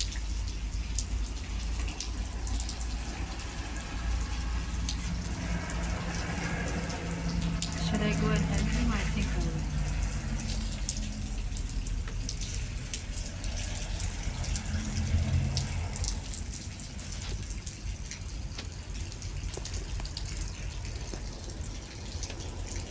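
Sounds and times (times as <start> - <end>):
raindrops ticking: 0.0 - 22.9.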